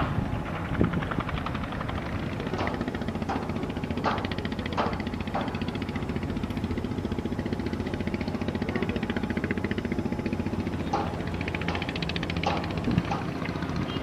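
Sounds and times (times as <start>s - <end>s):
engine running with fast pulse: 0.0s - 14.0s.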